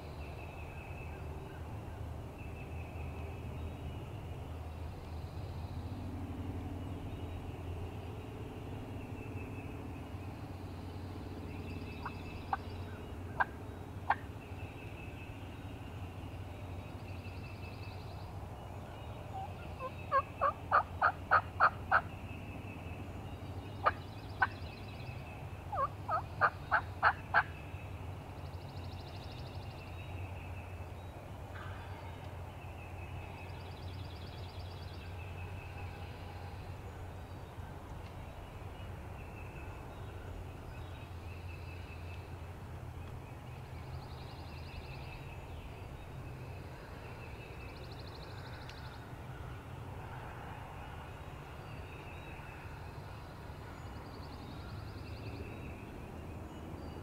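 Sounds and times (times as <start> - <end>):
faint songbirds calling: 0.0 - 57.0.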